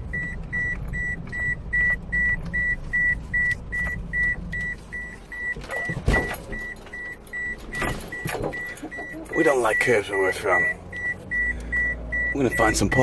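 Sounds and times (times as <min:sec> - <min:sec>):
car warning chime beeping: 0:00.1 - 0:13.0.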